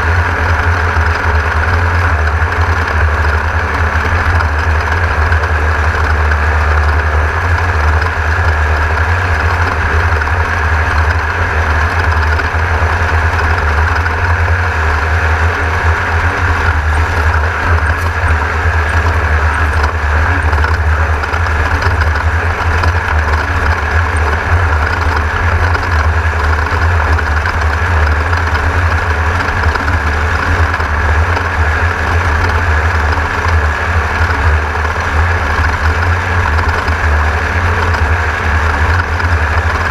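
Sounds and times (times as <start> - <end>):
race car engine drone: 0.0 - 39.9.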